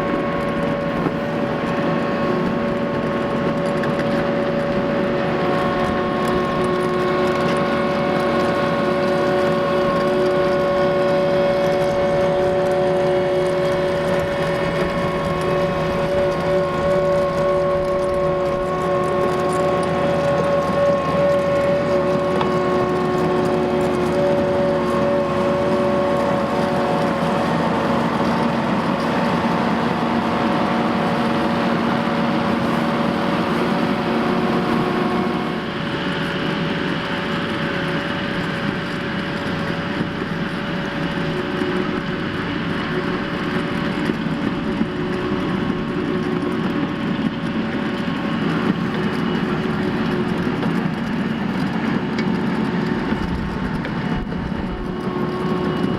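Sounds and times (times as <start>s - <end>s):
constant whining tone: 0.0s - 55.9s
loader engine under load: 0.0s - 55.9s.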